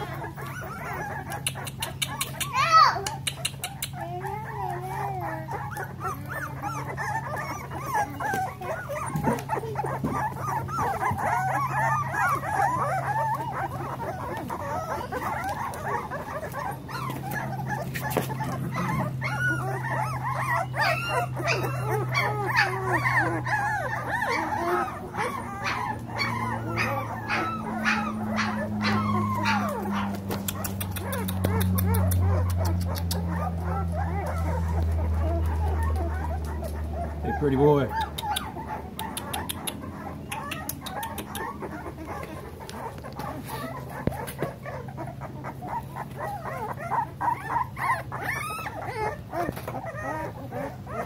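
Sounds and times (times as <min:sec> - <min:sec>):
puppies whining and squealing: 0:00.0 - 0:51.0.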